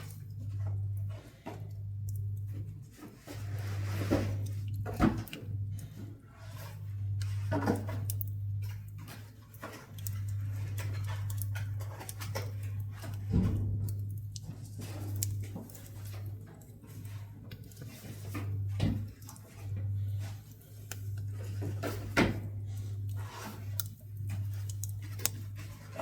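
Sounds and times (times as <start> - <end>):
low steady hum: 0.0 - 26.0
wood crackling in a stove: 0.0 - 26.0.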